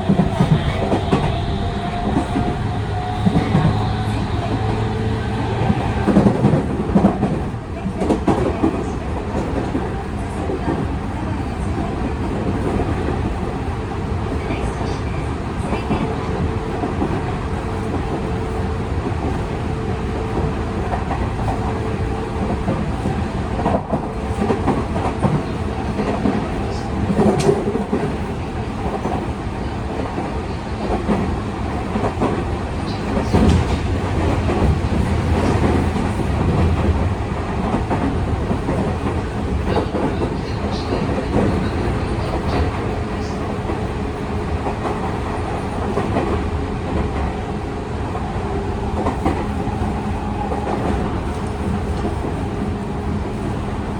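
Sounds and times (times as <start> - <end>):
train drive hum: 0.0 - 53.9
wheels rumbling on rail: 0.0 - 53.9.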